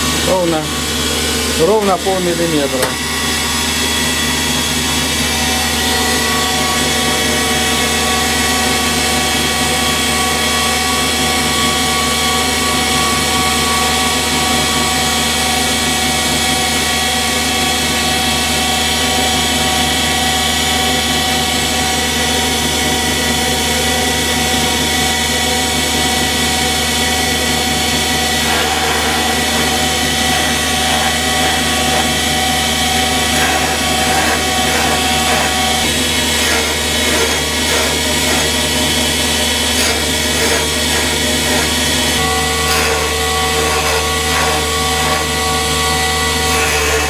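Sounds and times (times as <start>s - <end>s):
grinding machine whining: 0.0s - 47.0s.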